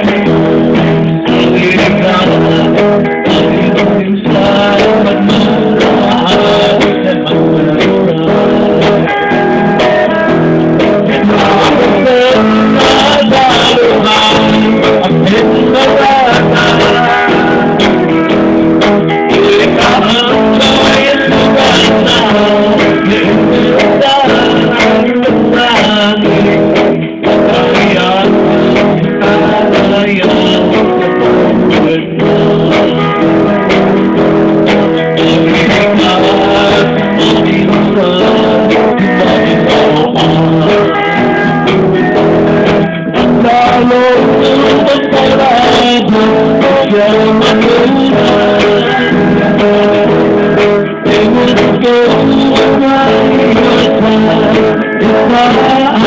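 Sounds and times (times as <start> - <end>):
man singing into a microphone: 0.0 - 56.0
strummed guitars: 0.0 - 56.0.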